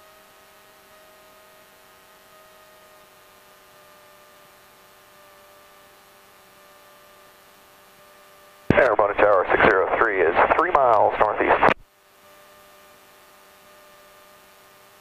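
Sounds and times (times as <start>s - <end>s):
cockpit hum and hiss: 0.0s - 15.0s.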